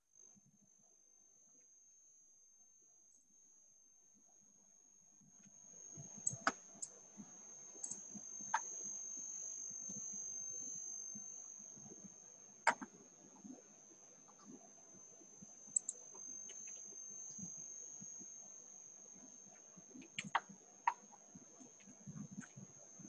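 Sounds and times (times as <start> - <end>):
faint high-pitched whine: 0.0 - 23.0.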